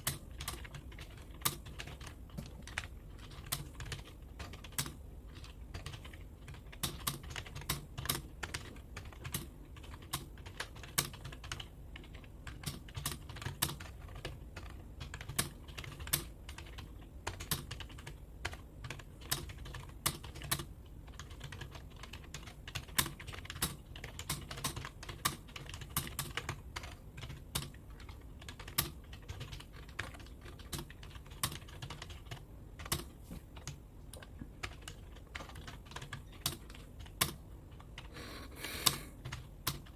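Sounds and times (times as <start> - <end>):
typing on computer keyboard: 0.0 - 38.2, 38.8 - 39.9.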